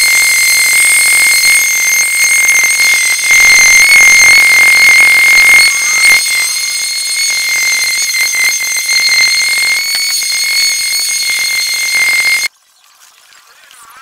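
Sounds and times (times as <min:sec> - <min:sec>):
electric paint sprayer whining: 0:00.0 - 0:12.5.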